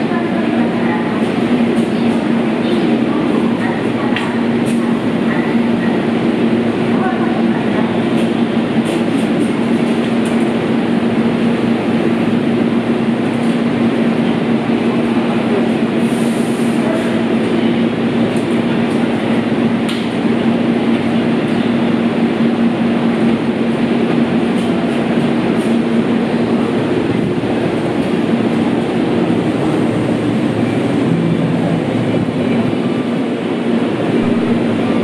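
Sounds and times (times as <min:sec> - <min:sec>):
electric train humming: 0:00.0 - 0:35.0
station noise: 0:00.0 - 0:35.0.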